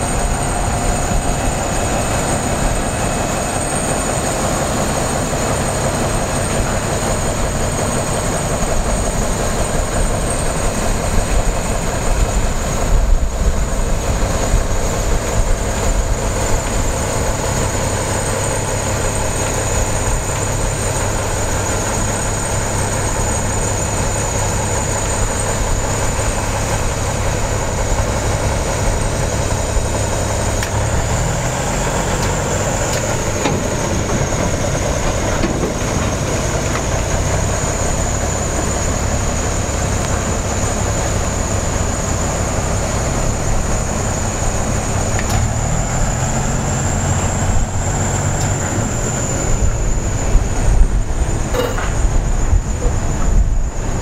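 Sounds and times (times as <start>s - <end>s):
diesel locomotive engine running: 0.0s - 54.0s
rolling stock rumble: 0.0s - 54.0s.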